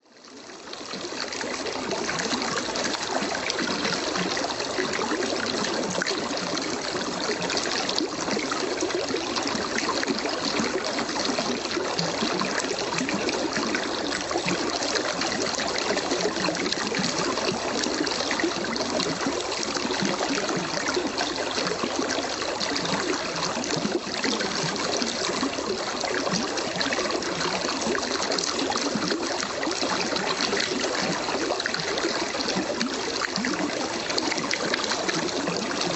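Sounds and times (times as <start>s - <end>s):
brook water trickling and splashing: 0.0s - 35.9s.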